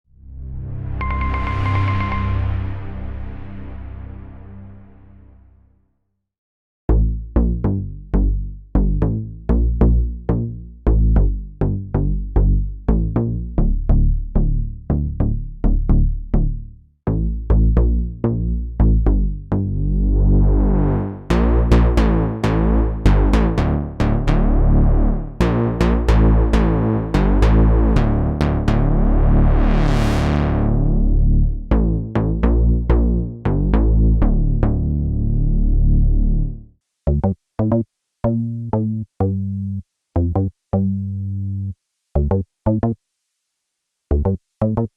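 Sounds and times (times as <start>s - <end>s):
synthesizer bass sequence: 0.2s - 5.4s, 6.9s - 43.0s, 44.1s - 44.9s.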